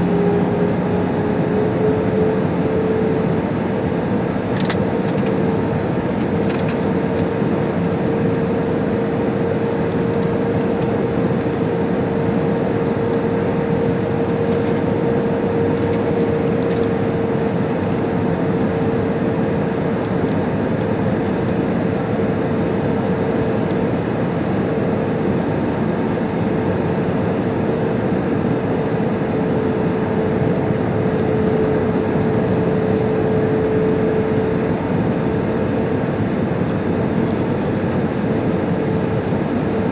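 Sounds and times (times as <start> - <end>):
airflow rush in cabin: 0.0 - 39.9
jet engines droning: 0.0 - 39.9.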